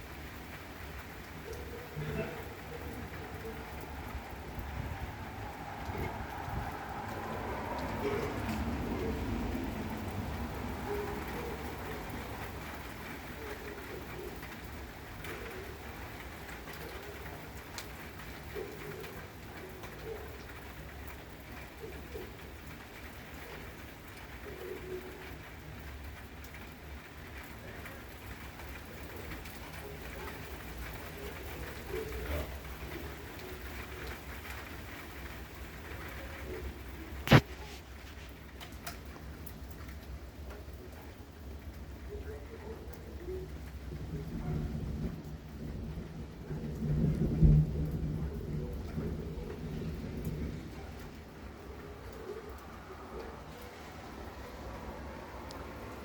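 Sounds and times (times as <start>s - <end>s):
steady rain: 0.0s - 56.0s
dove cooing: 0.9s - 25.9s, 27.4s - 37.8s, 42.0s - 56.0s.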